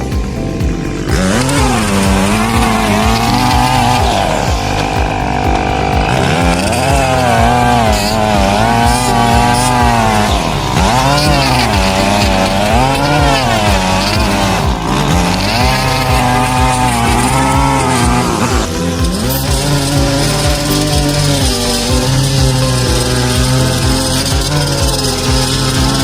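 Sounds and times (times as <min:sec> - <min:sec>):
petrol lawnmower engine running: 0:00.0 - 0:26.0.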